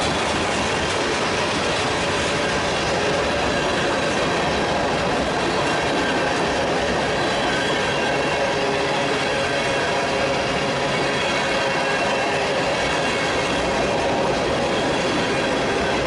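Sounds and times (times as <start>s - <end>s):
steel wheels rolling on rail: 0.0s - 16.0s.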